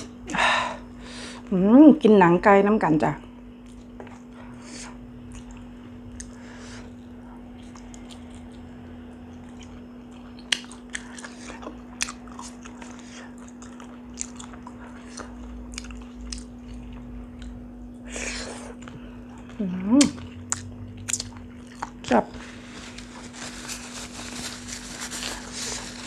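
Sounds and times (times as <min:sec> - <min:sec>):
steady low hum: 0:00.0 - 0:26.0
person chewing: 0:03.6 - 0:26.0.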